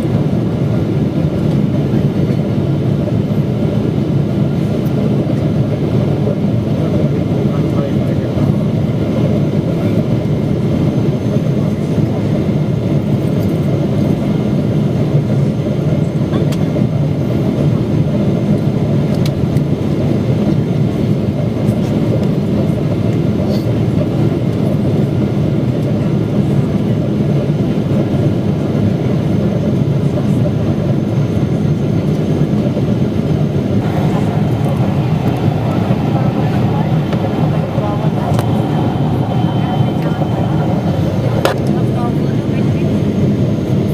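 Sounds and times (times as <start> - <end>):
airflow and engine roar in cabin: 0.0 - 43.9.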